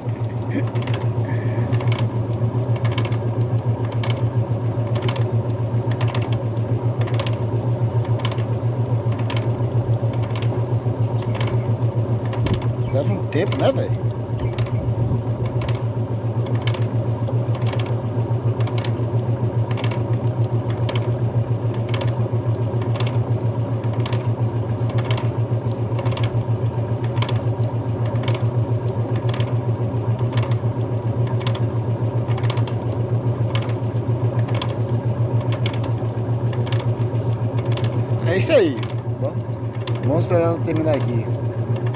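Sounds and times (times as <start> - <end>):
short regular clicks: 0.0 - 14.8, 15.4 - 41.9
washing machine motor hum: 0.0 - 41.9.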